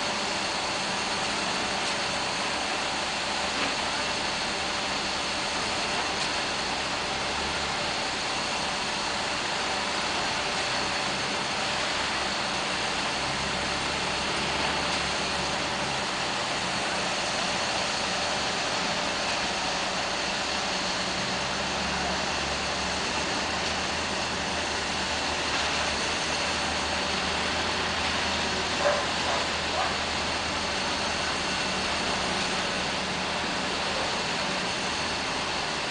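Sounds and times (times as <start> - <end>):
heavy machine engine running: 0.0 - 35.9.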